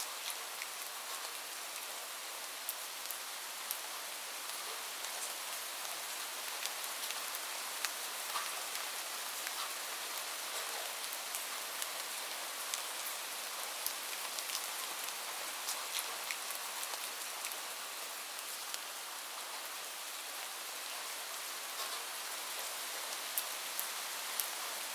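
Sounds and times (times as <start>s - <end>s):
light rain falling: 0.0s - 24.9s
raindrops ticking on a surface: 0.1s - 18.9s, 21.7s - 24.9s.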